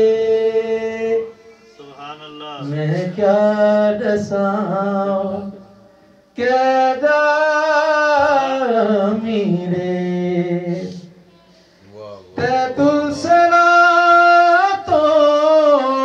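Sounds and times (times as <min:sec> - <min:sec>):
man singing unaccompanied: 0:00.0 - 0:11.2, 0:12.0 - 0:16.0.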